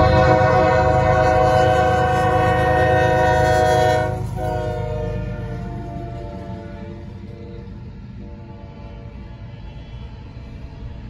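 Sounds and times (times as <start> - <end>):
locomotive air horn blast: 0.0 - 9.2
train rumble: 0.0 - 11.0.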